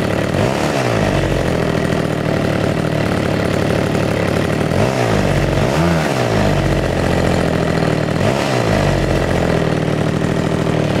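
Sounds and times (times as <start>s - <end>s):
model plane engine revving: 0.0s - 11.0s.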